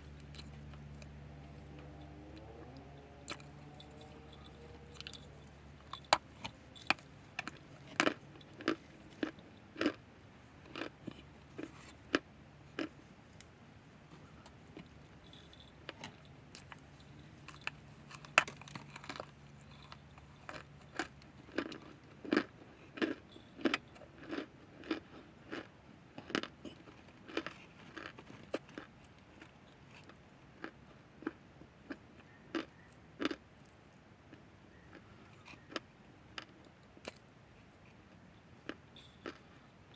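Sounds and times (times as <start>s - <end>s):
chewing crisp crunches: 0.0s - 39.9s.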